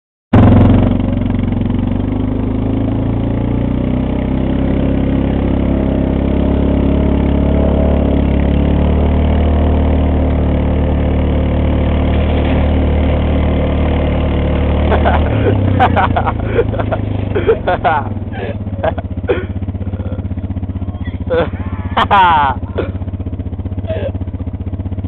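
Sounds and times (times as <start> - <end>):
four-wheeler engine running: 0.3 - 25.0.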